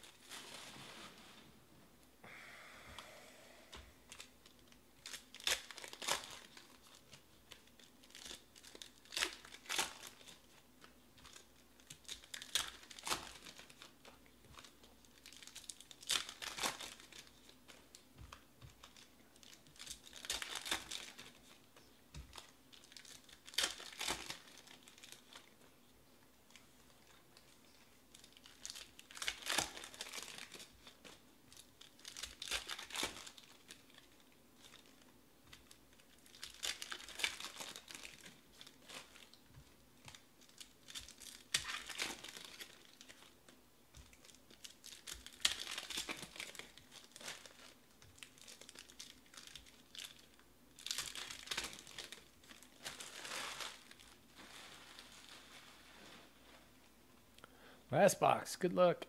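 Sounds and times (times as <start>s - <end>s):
foil wrappers crinkling and tearing: 4.1s - 25.6s, 26.5s - 56.6s.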